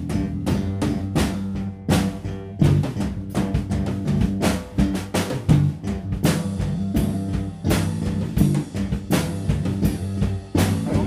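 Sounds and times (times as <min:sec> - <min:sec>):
bass line: 0:00.0 - 0:11.0
drum kit beat: 0:00.0 - 0:11.0.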